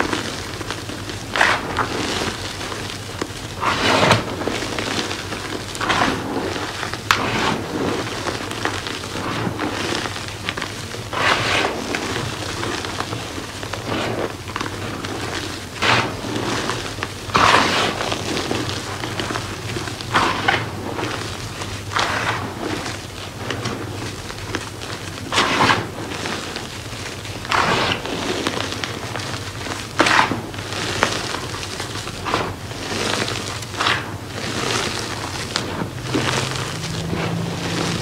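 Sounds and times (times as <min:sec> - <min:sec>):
hands crunching chalk powder: 0:00.0 - 0:38.0.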